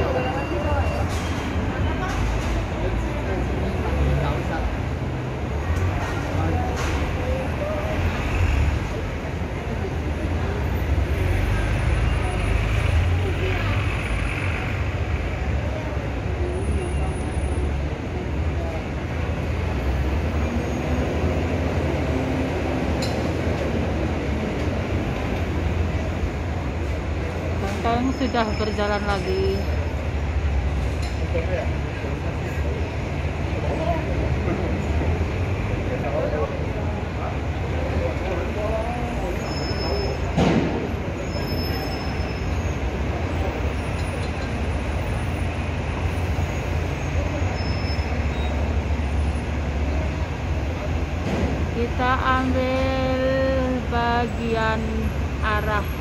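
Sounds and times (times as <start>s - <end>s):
heavy street traffic rumble: 0.0s - 56.0s
light rail trains: 0.0s - 56.0s.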